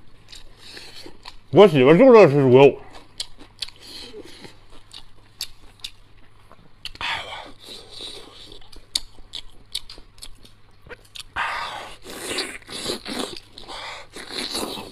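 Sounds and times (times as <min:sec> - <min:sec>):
person chewing with mouth smacks: 0:00.1 - 0:01.5, 0:02.8 - 0:14.9.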